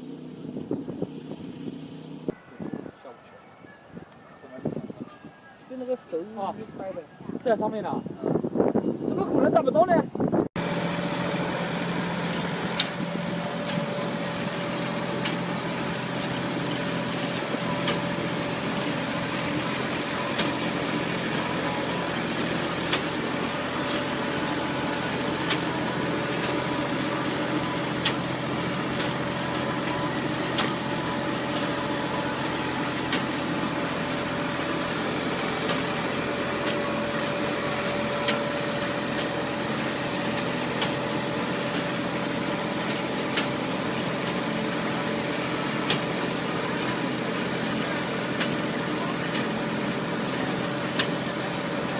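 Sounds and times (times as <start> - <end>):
machinery humming: 0.0 - 7.3, 8.0 - 51.9.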